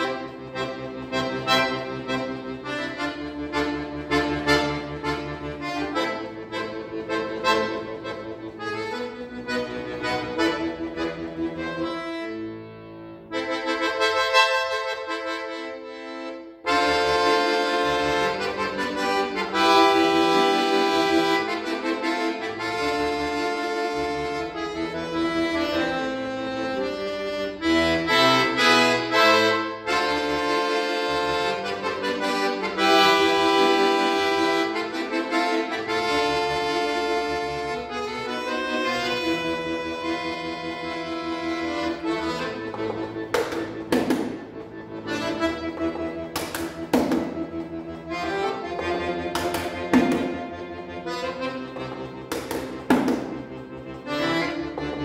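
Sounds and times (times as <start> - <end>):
button accordion playing: 0.0 - 55.0.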